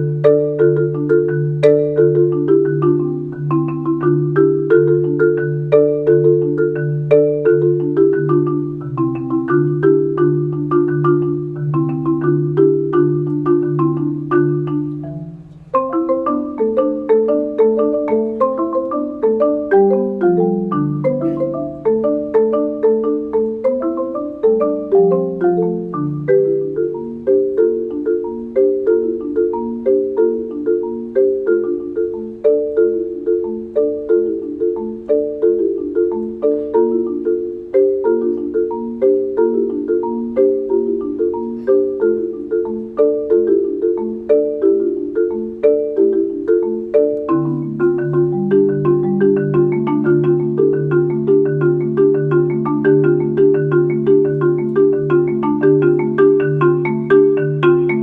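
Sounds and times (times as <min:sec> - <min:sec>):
marimba playing fast patterns: 0:00.0 - 0:58.0.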